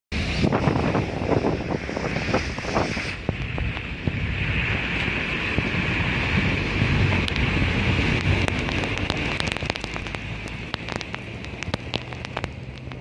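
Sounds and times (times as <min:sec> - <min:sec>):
low road rumble: 0:00.1 - 0:13.0
wind buffeting microphone: 0:00.1 - 0:13.0
tyres hissing on wet road: 0:00.2 - 0:13.0.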